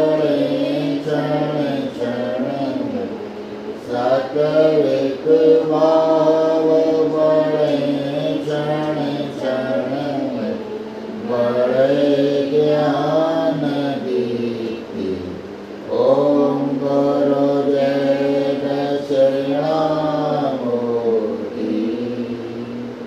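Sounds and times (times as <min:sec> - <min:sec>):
voices singing a devotional chant: 0:00.0 - 0:23.0.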